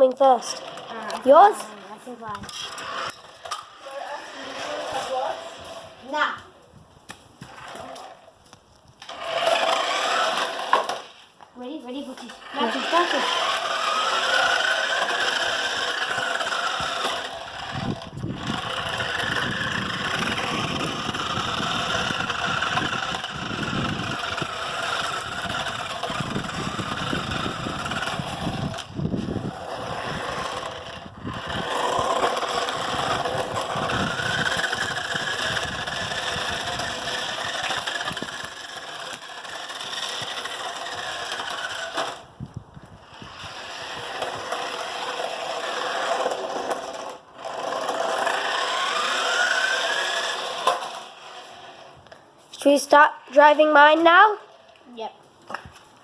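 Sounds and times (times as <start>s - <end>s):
toy car electric motor whining: 0.0s - 6.4s, 7.4s - 11.3s, 11.9s - 54.8s
wheels rolling: 0.0s - 56.0s.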